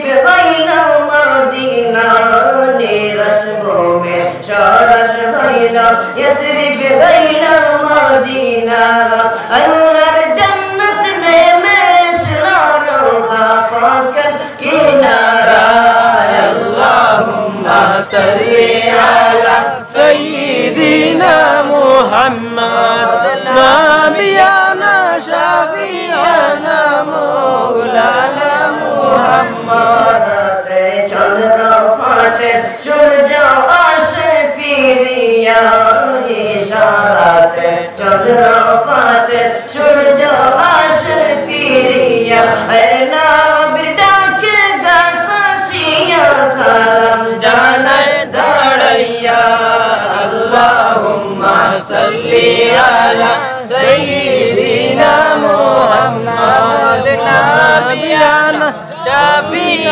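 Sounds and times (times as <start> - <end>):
voices singing devotional melody: 0.0 - 59.9.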